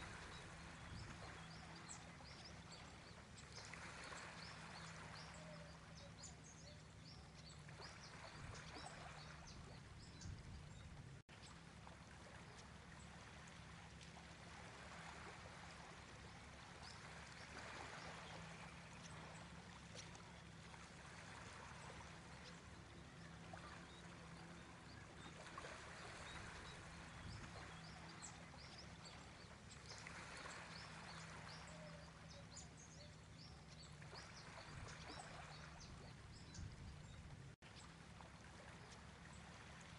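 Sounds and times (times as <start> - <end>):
low steady hum: 0.0 - 39.9
soft running water: 0.0 - 39.9.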